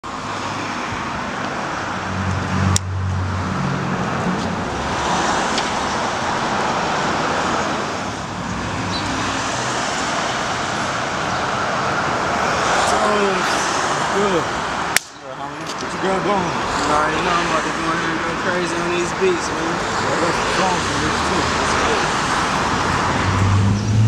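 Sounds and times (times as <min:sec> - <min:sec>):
passing cars: 0:00.0 - 0:24.0
vehicle engine hum: 0:00.0 - 0:24.0.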